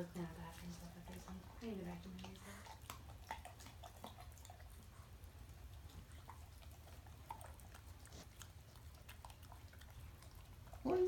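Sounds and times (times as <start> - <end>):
low steady hum: 0.0 - 11.0
dog licking and gnawing: 0.1 - 11.0.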